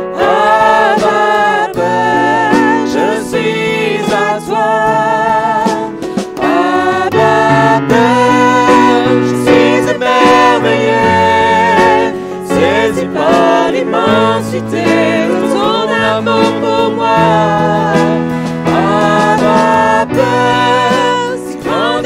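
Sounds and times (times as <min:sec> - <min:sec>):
keyboard: 0:00.0 - 0:22.0
women singing together: 0:00.0 - 0:22.0
drums: 0:02.2 - 0:22.0.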